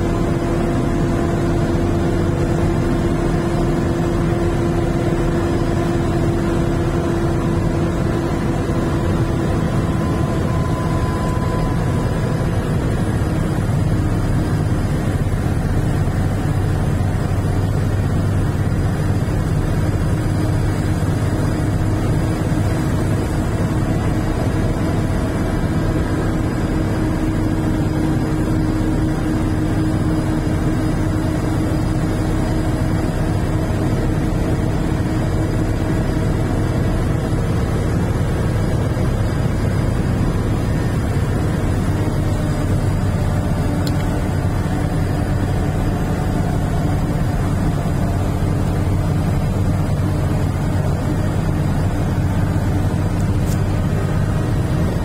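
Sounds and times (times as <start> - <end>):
road and tyre noise: 0.0 - 55.0
vehicle engine drone: 0.0 - 55.0.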